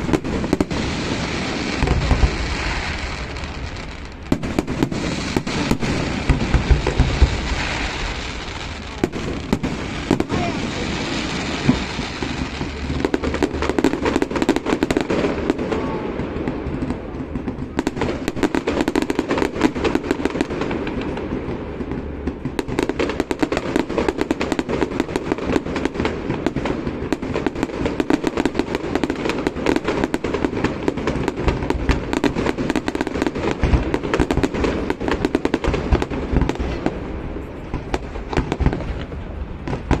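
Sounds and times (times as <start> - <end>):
deep firework booms: 0.0 - 40.0
fireworks crackling: 0.0 - 40.0.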